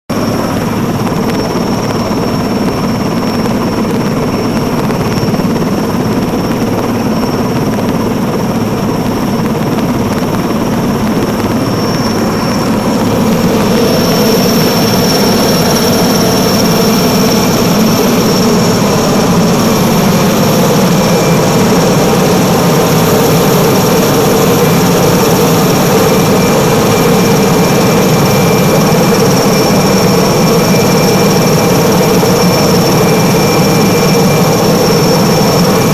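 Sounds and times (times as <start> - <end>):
helicopter engine and rotor: 0.0 - 35.9
turbine whine: 0.1 - 35.9.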